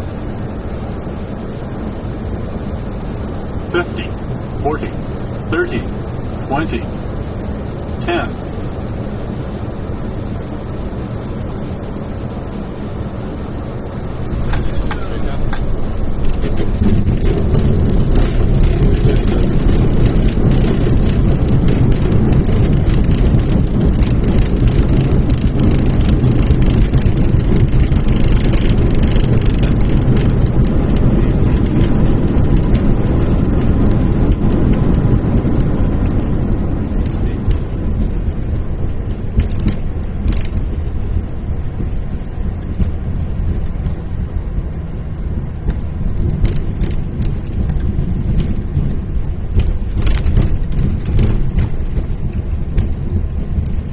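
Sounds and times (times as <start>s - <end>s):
roar of aircraft engines: 0.0s - 53.9s
wheels rumbling on runway: 0.0s - 53.9s.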